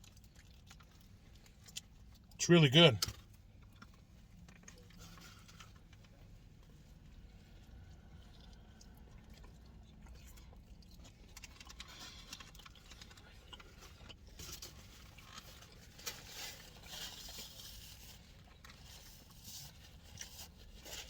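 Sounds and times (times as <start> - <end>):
chewing and mouth sounds: 0.0 - 21.0.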